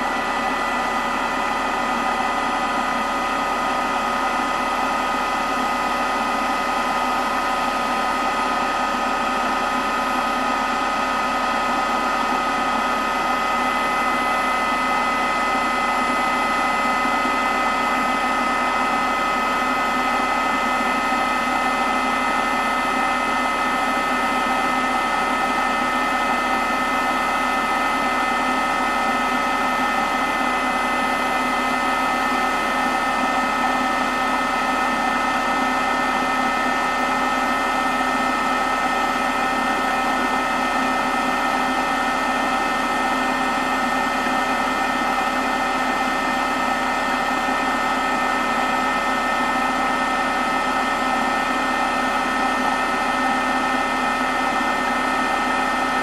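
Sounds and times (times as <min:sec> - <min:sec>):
foot spa motor hum: 0:00.0 - 0:56.0.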